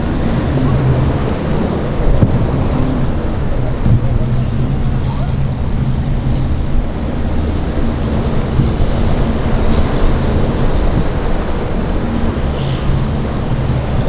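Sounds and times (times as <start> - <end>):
breaking waves and surf: 0.0 - 14.0
powerboat engines droning: 0.0 - 14.0
wind on microphone: 0.0 - 14.0.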